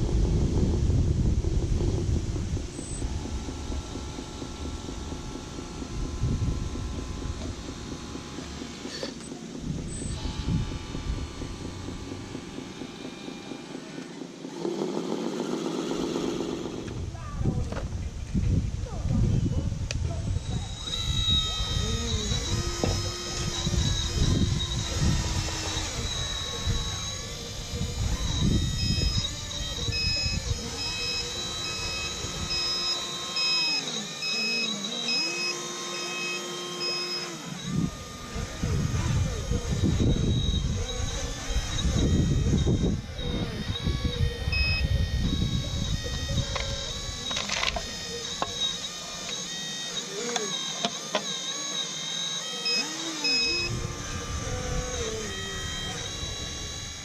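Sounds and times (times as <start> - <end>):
toy truck motor whining: 1.8 - 57.0
high electronic beeps: 2.6 - 14.0, 20.5 - 57.0.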